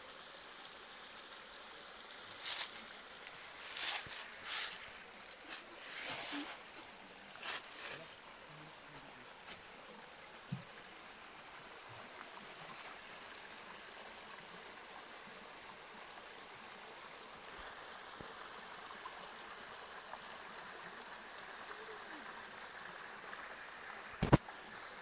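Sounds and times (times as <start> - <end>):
creek trickling over stones: 0.0 - 25.0.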